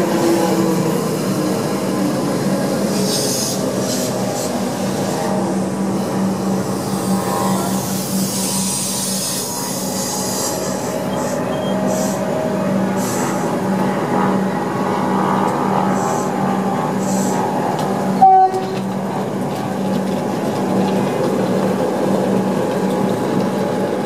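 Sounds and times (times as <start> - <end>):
electric train stopping: 0.0 - 24.0.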